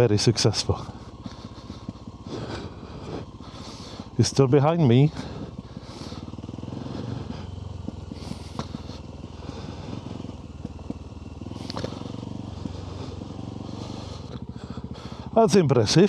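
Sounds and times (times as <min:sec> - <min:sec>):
motorbike engine running: 0:00.0 - 0:16.0.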